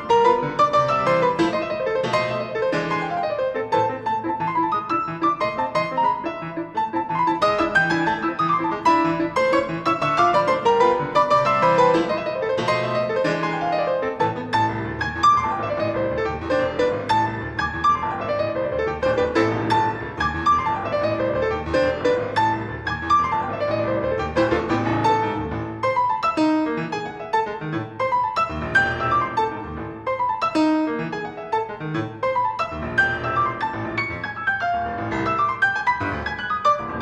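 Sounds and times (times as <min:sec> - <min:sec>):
fast solo piano: 0:00.0 - 0:37.0.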